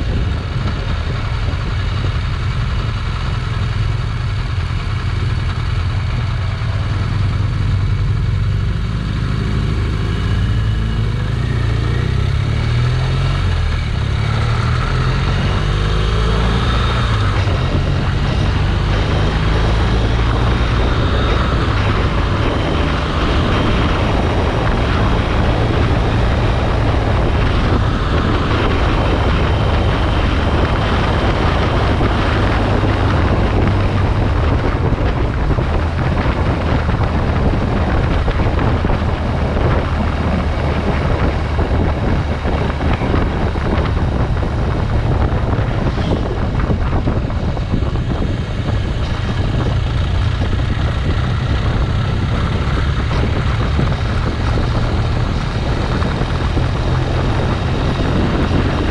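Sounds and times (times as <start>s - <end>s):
motorcycle engine drone: 0.0s - 58.9s
wind rush on microphone: 0.0s - 58.9s.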